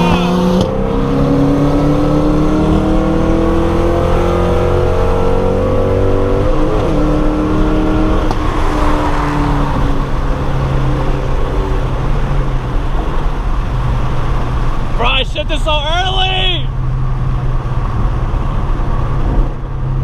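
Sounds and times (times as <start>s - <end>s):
car engine accelerating: 0.0s - 15.9s, 16.7s - 20.0s
wind and road noise: 0.0s - 20.0s.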